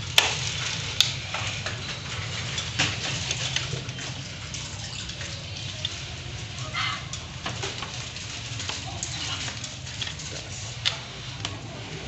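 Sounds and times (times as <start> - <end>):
rustling and small knocks: 0.0 - 11.6.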